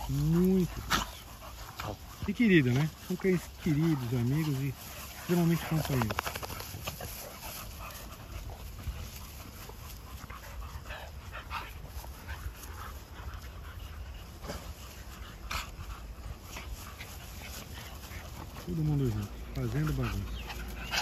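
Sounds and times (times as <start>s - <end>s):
dogs panting and snuffling: 0.0s - 21.0s
rustling in long grass: 0.0s - 21.0s.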